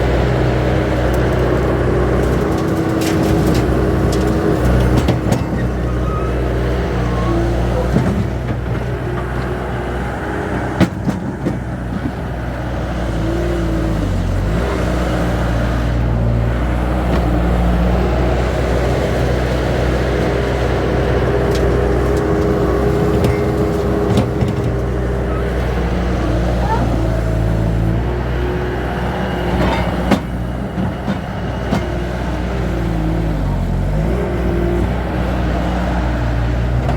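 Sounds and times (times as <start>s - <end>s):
earth-moving machine engine: 0.0s - 36.9s.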